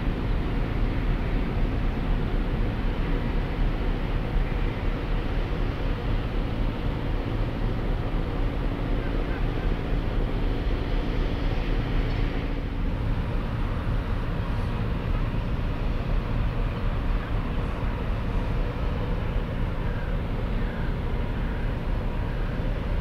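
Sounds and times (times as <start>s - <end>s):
ferry engines droning: 0.0s - 23.0s.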